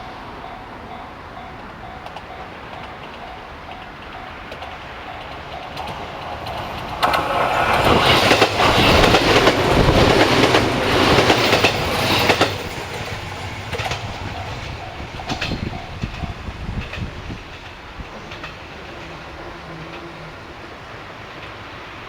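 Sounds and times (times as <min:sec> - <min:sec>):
train wheels clacking over rail joints: 0:01.4 - 0:20.6.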